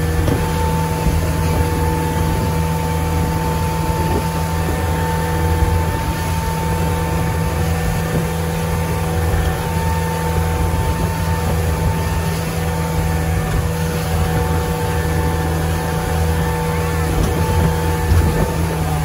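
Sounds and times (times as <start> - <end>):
churning wake and spray: 0.0 - 19.0
motorboat engine drone: 0.0 - 19.0.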